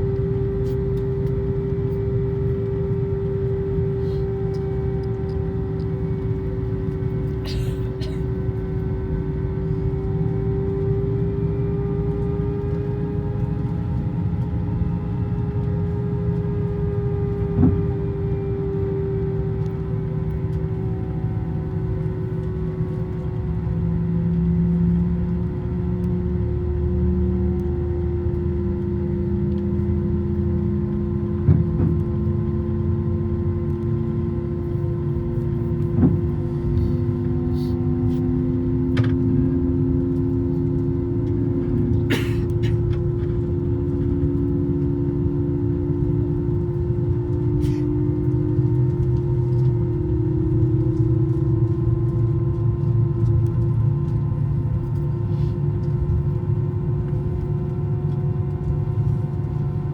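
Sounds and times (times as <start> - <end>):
aircraft cabin engine hum: 0.0 - 59.9.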